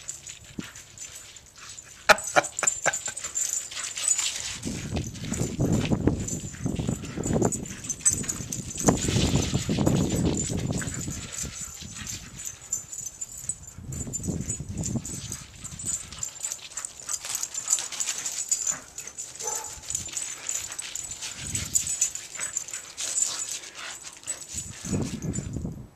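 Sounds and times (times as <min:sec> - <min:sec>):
dog sounds: 0:01.7 - 0:25.4.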